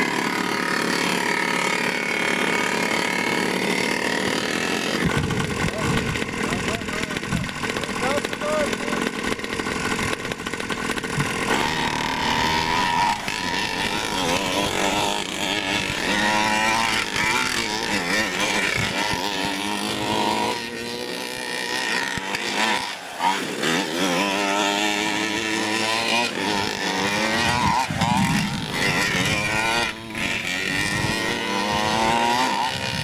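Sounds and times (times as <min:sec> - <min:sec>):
small two-stroke engine revving: 0:00.0 - 0:33.0.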